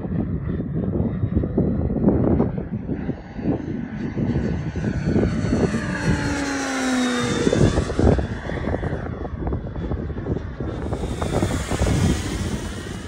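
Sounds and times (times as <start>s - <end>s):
model turboprop engine whine: 0.0s - 13.0s
wind buffeting microphone: 0.0s - 13.0s.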